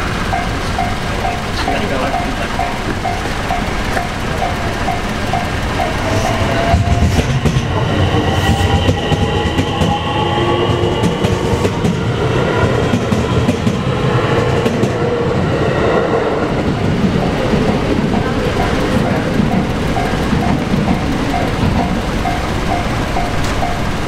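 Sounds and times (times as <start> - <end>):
train wheels clattering over rail joints: 0.0 - 15.6, 16.2 - 24.0
crossing alarm bell ringing: 0.0 - 24.0
train motor whine: 0.0 - 24.0
train rumble: 0.0 - 24.0.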